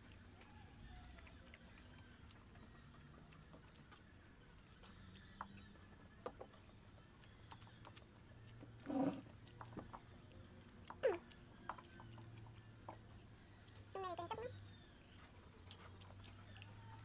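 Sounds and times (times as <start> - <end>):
people chewing and eating: 0.0 - 17.0.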